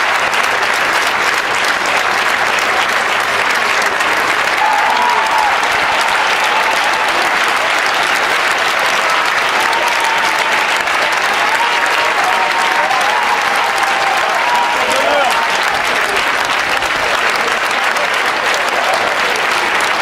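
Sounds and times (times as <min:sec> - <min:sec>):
crowd applauding and cheering: 0:00.0 - 0:20.0.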